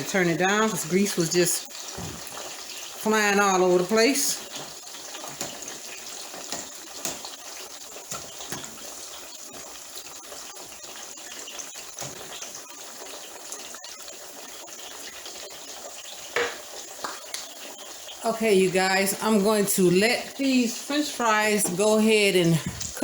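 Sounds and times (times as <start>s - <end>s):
fries sizzling in hot oil: 0.0s - 23.0s.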